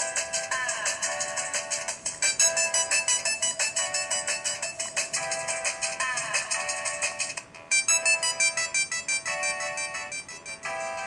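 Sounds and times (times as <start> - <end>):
polyphonic ringtone on small speaker: 0.0 - 11.0.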